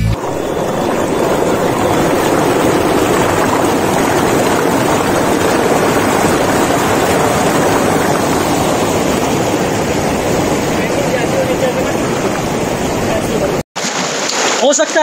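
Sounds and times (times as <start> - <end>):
river water rushing over boulders: 0.2 - 15.0.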